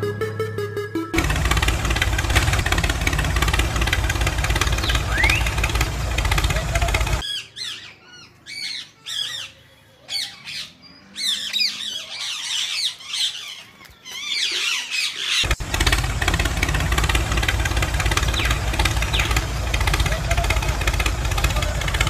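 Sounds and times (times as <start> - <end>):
small birds chirping: 1.2 - 22.0.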